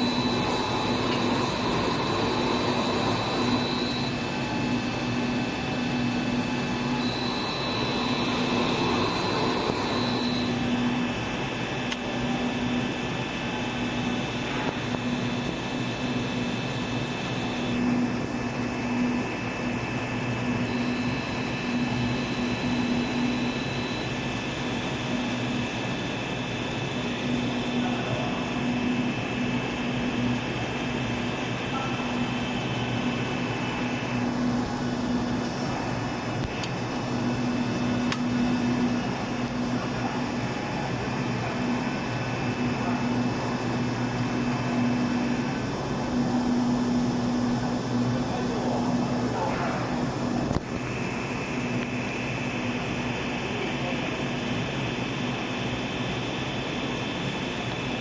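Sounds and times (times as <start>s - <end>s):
machine humming and rumbling: 0.0s - 58.0s.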